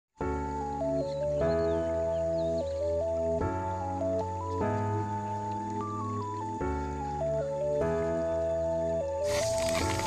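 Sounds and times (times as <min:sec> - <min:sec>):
background music with sustained chords: 0:00.2 - 0:10.0.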